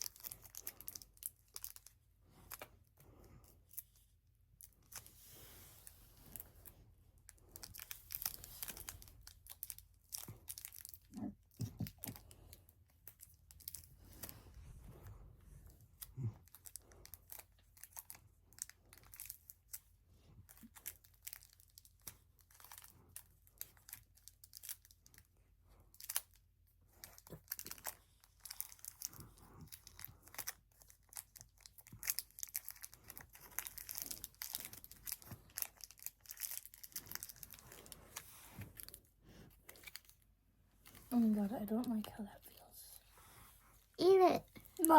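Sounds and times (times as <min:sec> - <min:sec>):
snack wrapper crinkling and tearing: 0:00.0 - 0:05.1, 0:05.8 - 0:14.5, 0:15.6 - 0:40.2.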